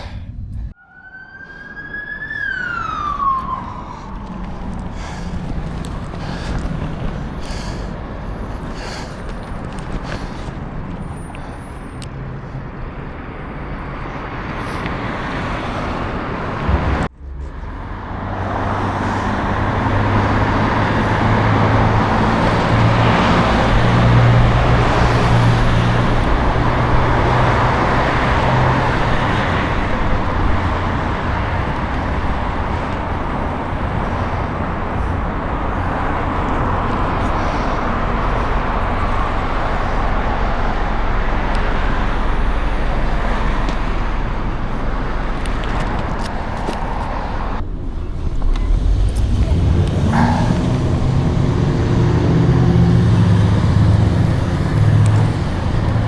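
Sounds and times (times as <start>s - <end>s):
road traffic noise: 0.0s - 56.0s.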